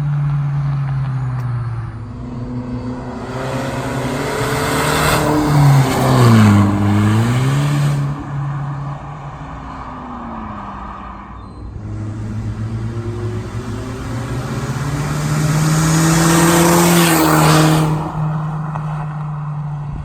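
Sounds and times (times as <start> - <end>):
car engine accelerating past: 0.0 - 19.8.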